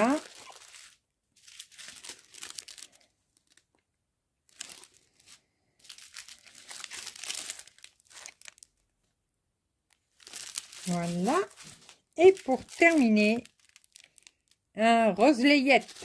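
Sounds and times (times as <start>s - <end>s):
plastic bags crinkling: 0.0s - 3.8s, 4.4s - 9.1s, 9.9s - 16.0s.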